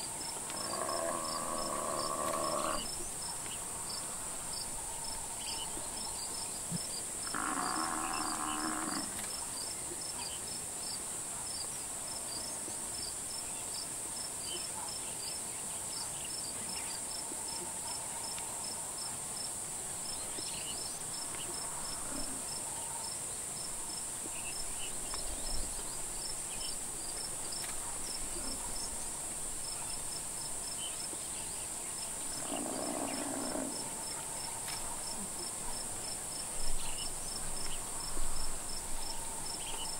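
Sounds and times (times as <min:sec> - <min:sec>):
cricket chirping: 0:00.0 - 0:39.9
insect chorus buzzing: 0:00.0 - 0:39.9.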